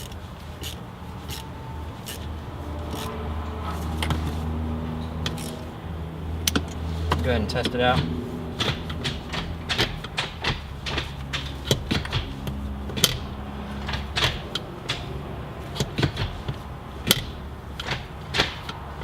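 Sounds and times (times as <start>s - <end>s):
gear shifter clicking and clunking: 0.0s - 2.3s, 3.8s - 5.8s, 6.4s - 19.0s.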